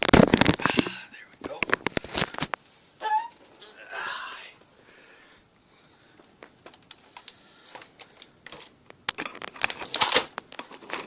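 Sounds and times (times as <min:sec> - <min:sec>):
rustling and scraping: 0:00.0 - 0:03.8, 0:05.8 - 0:11.0.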